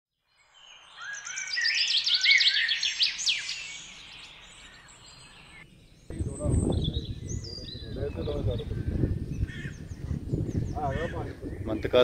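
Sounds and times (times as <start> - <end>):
birds chirping and whistling: 0.3 - 12.0.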